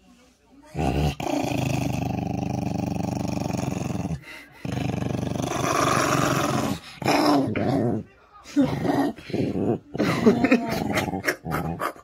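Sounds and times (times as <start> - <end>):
dog growling: 0.7 - 12.0.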